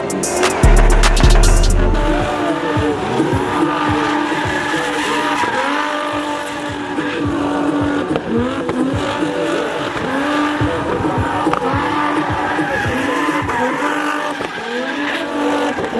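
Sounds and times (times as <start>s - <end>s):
car engines revving: 0.0s - 15.9s
tyres squealing: 2.0s - 15.9s.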